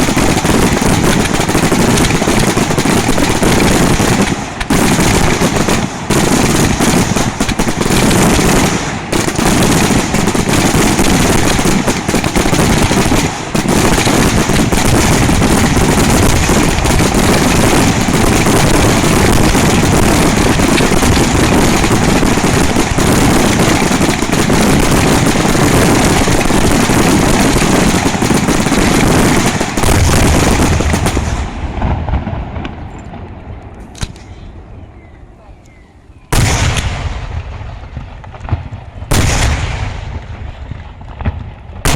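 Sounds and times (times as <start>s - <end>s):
fireworks bursts and crackling: 0.0s - 34.3s, 36.3s - 41.9s.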